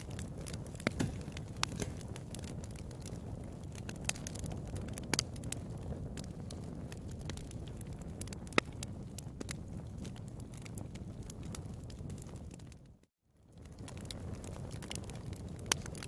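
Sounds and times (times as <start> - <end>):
fire crackling and popping: 0.0 - 16.0
wood fire low rumble: 0.0 - 16.0.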